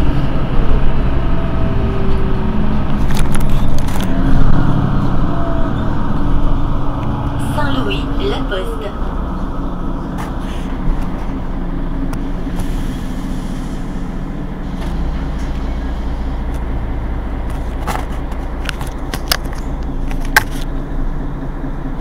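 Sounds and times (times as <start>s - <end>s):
bus diesel engine idling: 0.0s - 22.0s.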